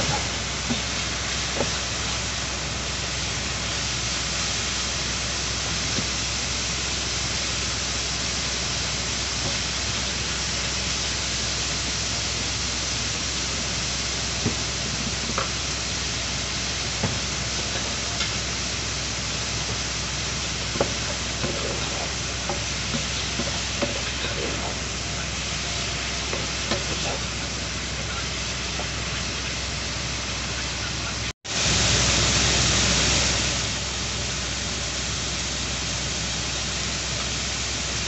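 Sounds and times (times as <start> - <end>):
food sizzling in frying pan: 0.0 - 38.0.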